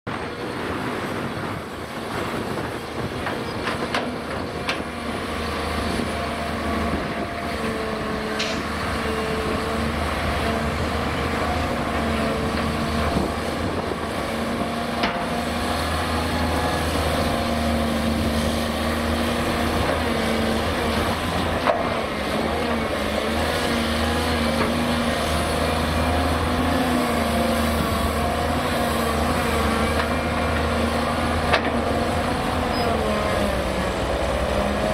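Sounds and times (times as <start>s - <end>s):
excavator diesel engine: 0.1s - 34.9s.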